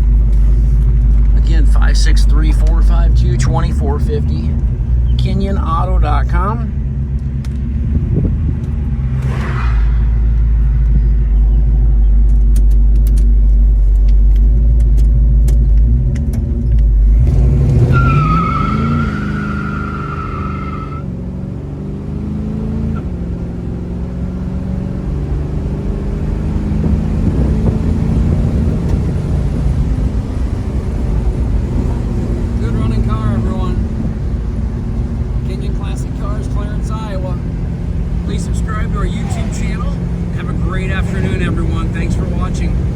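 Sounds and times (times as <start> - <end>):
car engine rumbling: 0.0 - 42.9.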